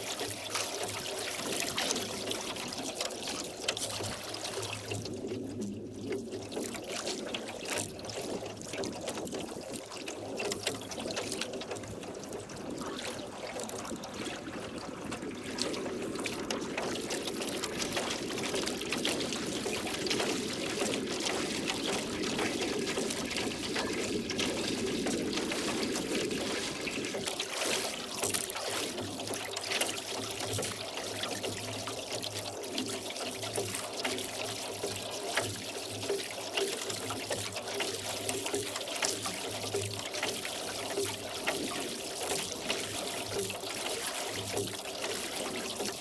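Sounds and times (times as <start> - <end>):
oars splashing water: 0.0 - 46.0.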